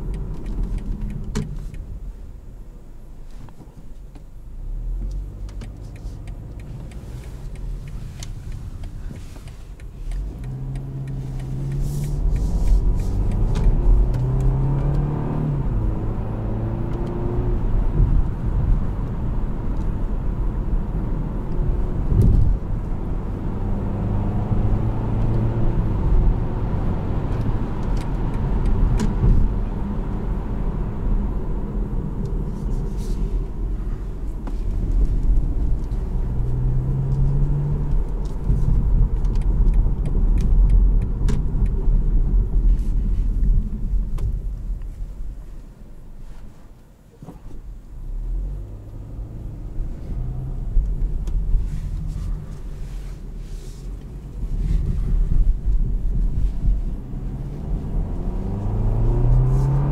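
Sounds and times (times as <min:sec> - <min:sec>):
car engine accelerating: 0:04.5 - 0:45.5, 0:47.2 - 0:59.9.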